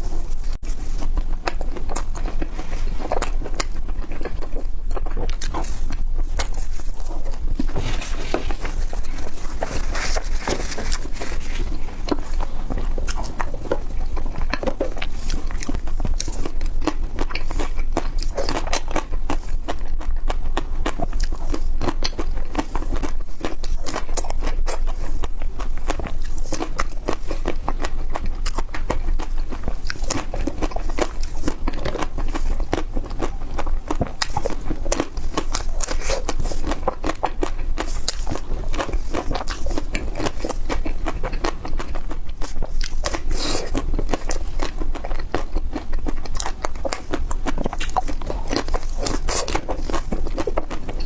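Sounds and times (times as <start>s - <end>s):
crunching frozen ice cream: 0.0s - 51.0s.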